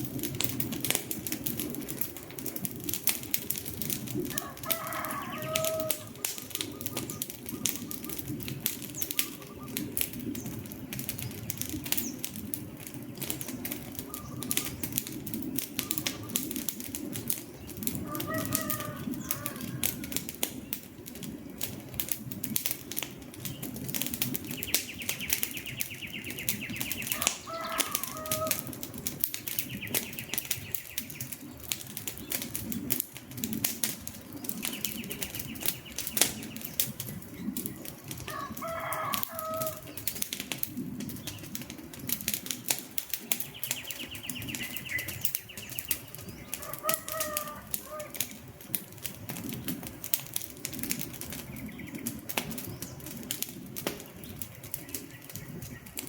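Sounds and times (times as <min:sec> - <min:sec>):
campfire crackling and popping: 0:00.0 - 0:56.0
low rush of flames: 0:00.0 - 0:56.0
birds calling: 0:01.6 - 0:56.0.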